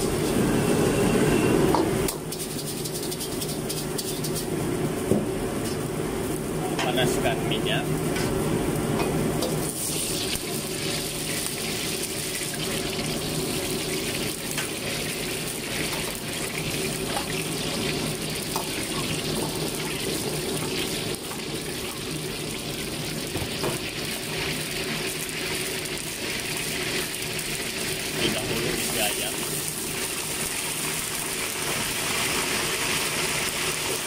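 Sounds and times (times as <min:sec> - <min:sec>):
oil sizzling in a wok: 0:00.0 - 0:34.0.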